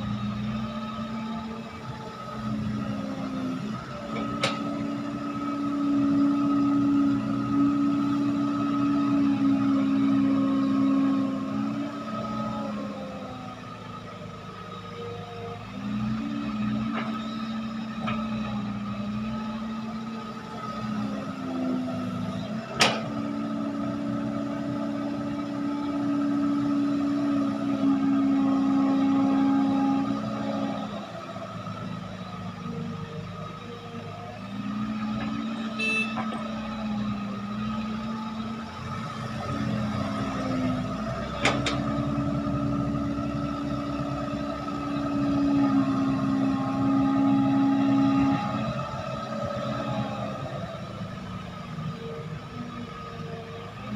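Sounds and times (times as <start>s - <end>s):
heavy diesel machinery running: 0.0s - 53.9s.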